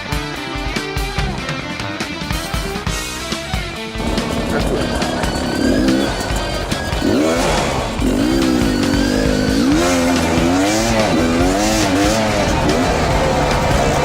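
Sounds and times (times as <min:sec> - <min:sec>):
dirt bike engine revving: 0:02.3 - 0:14.0.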